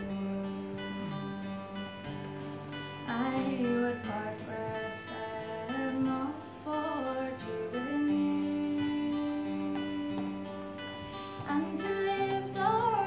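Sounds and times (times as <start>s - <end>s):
picked acoustic guitar: 0.0s - 13.0s
woman singing a ballad: 0.0s - 13.0s.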